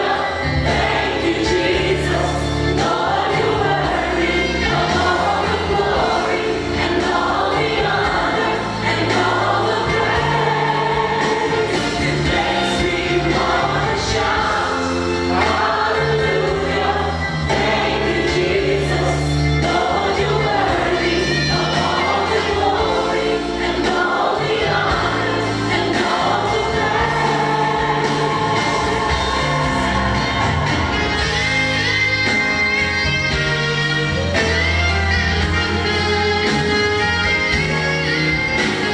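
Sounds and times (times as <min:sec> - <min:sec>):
choir singing: 0:00.0 - 0:32.9
band with bass and beat: 0:00.0 - 0:38.9.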